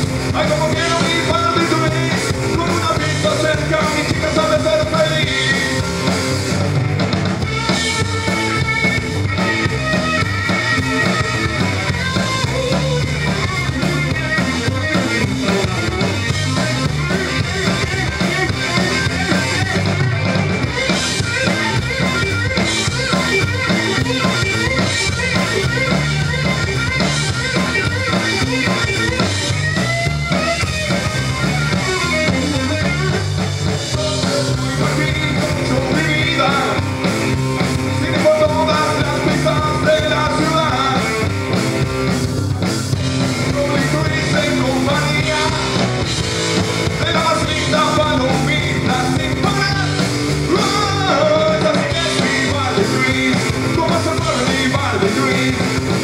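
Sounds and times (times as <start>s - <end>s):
distorted electric guitar: 0.0s - 56.0s
drum kit beat: 0.0s - 56.0s
electric bass: 0.0s - 56.0s.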